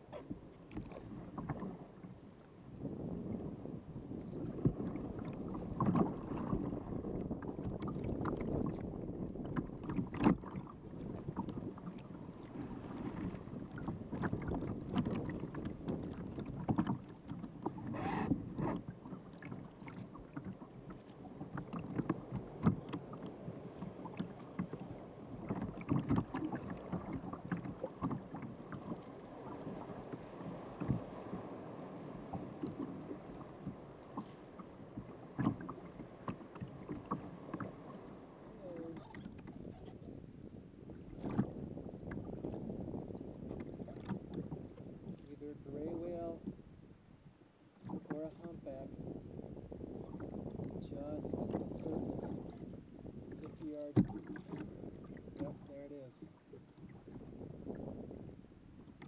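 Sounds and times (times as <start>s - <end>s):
water splashing along hull: 0.0s - 59.0s
wind on microphone: 0.0s - 59.0s.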